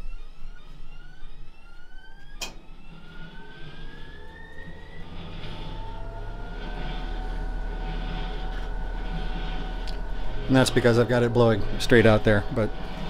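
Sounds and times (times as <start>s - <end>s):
clothes dryer motor whine: 0.0s - 13.0s
dryer drum and airflow rumble: 0.0s - 13.0s.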